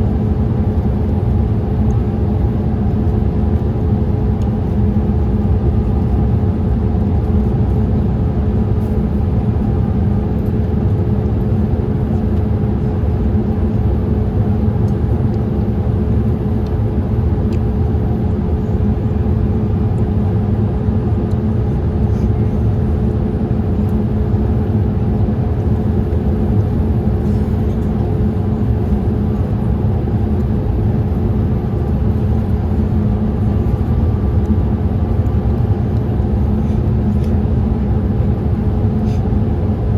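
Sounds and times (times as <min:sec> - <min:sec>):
aircraft cabin rumble: 0:00.0 - 0:39.9
steady hum tones: 0:00.0 - 0:39.9.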